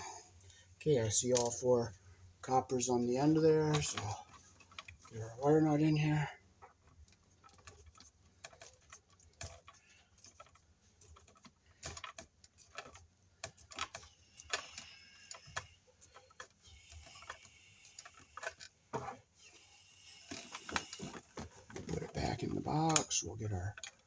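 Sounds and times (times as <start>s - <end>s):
handling noises: 0.0s - 24.0s.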